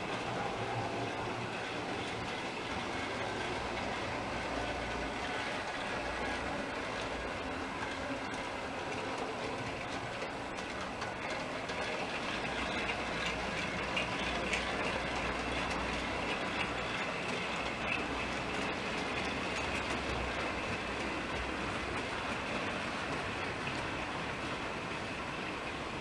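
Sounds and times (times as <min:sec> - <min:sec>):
constant high whine: 0:00.0 - 0:26.0
model train wheels rattling: 0:00.0 - 0:26.0.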